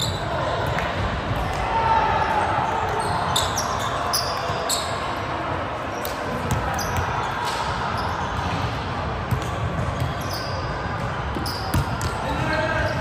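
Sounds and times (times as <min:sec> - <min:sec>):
sports hall noise: 0:00.0 - 0:13.0.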